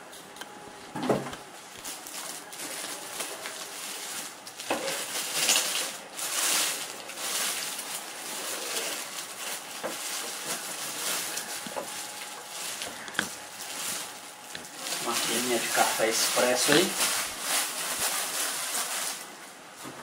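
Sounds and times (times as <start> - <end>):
plastic bag crinkling: 0.8 - 20.0.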